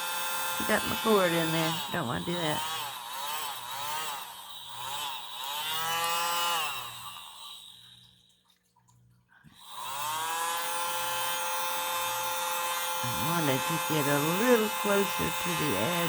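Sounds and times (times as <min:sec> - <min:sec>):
small hair dryer motor whining: 0:00.0 - 0:08.2, 0:09.5 - 0:16.0.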